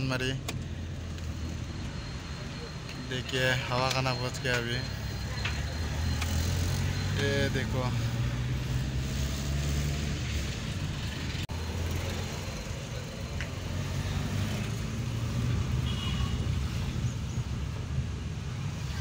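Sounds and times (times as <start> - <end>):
car engine: 0.0 - 15.9
road noise: 0.0 - 19.0.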